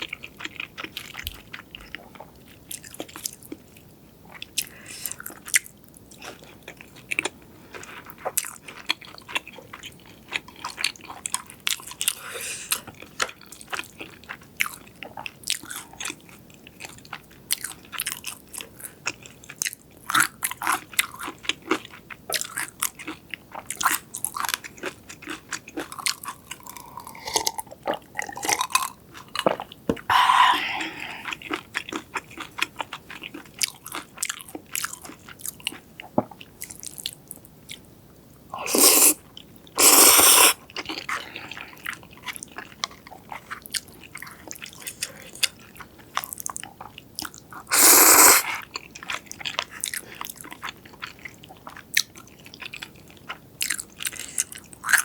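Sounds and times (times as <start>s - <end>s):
chewing and crunching: 0.0s - 30.1s, 31.0s - 37.9s, 40.6s - 47.7s, 48.4s - 55.0s.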